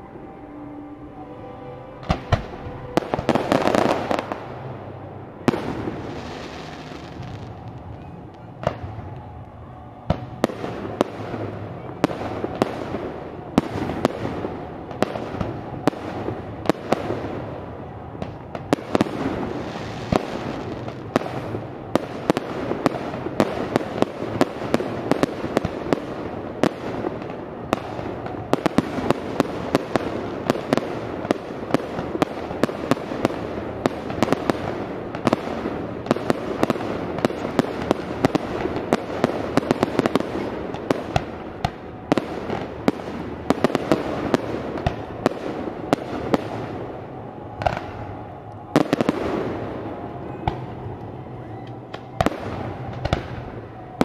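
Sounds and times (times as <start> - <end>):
fireworks bursting with sharp bangs: 2.0 - 54.0.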